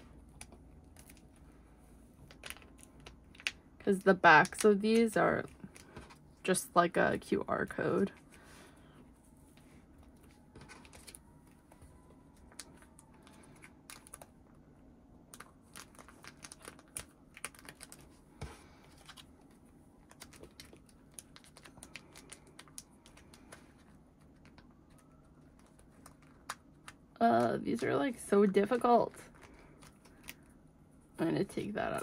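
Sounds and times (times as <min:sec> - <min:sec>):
plastic sleeves crinkling and clicking: 0:00.1 - 0:06.3, 0:09.5 - 0:14.6, 0:15.2 - 0:30.6.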